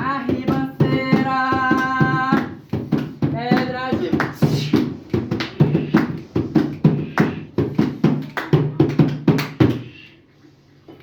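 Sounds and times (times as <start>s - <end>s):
hand drum fast rhythm: 0.0s - 9.9s.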